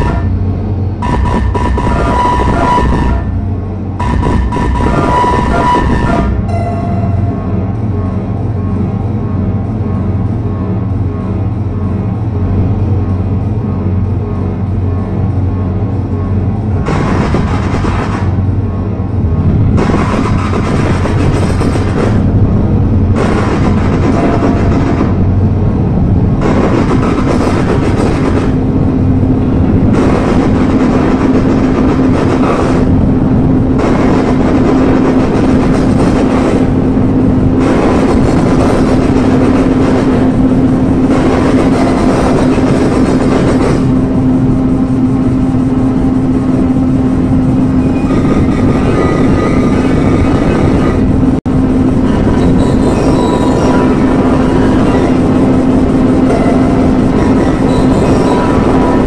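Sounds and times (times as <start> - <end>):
electronic noise music: 0.0 - 35.6, 36.2 - 59.0.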